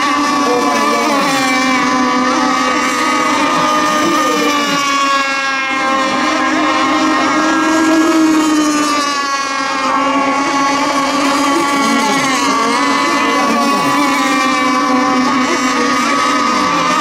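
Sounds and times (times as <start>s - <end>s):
racing boat engines high-pitched buzz: 0.0s - 17.0s.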